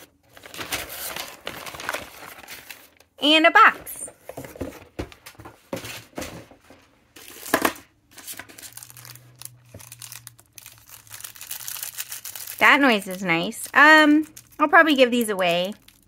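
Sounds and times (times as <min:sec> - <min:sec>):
plastic sleeves crinkling: 0:00.0 - 0:16.0.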